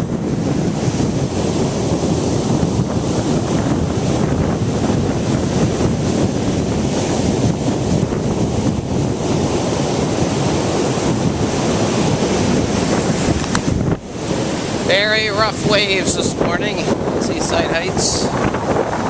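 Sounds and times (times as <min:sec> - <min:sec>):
ocean surf breaking on beach: 0:00.0 - 0:19.0
wind buffeting the microphone: 0:00.0 - 0:19.0.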